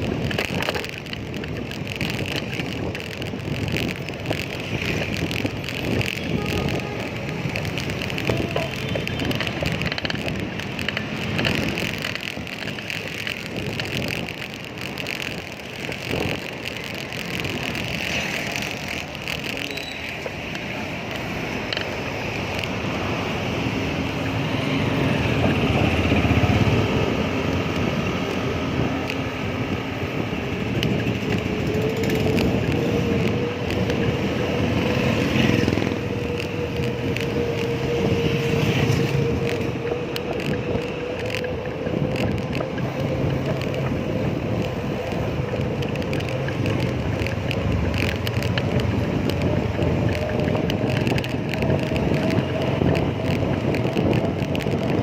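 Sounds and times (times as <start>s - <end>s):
passing traffic: 0.0s - 55.0s
wind on microphone: 0.0s - 55.0s.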